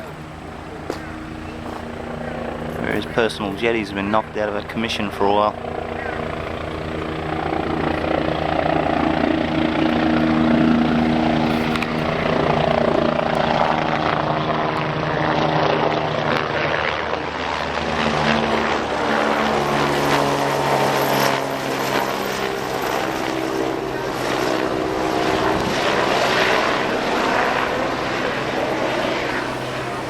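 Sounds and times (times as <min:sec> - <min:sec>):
helicopter rotor chopping: 0:00.0 - 0:30.0.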